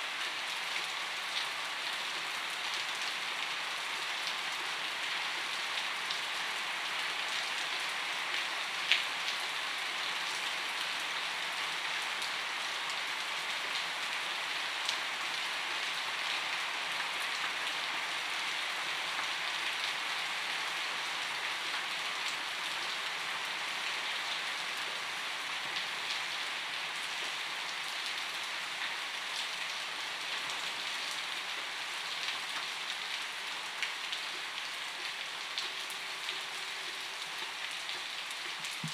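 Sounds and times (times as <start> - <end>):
gentle rainfall hiss: 0.0 - 38.9.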